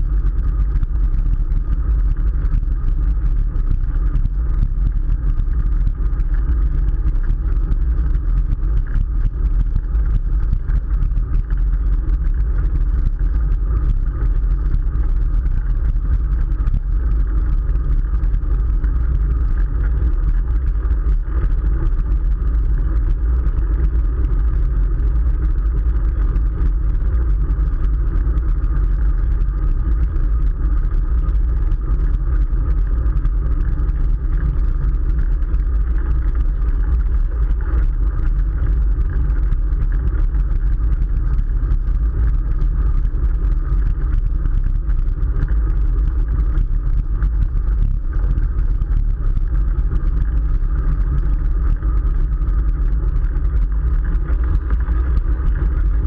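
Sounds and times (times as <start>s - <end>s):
bicycle tyre road noise: 0.0s - 56.0s
wind rumble on microphone: 0.0s - 56.0s.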